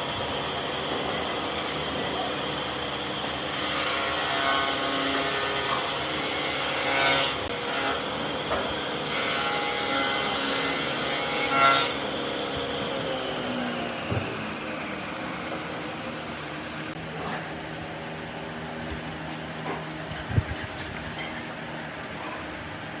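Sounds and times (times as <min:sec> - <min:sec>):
power tool running: 0:00.0 - 0:22.0.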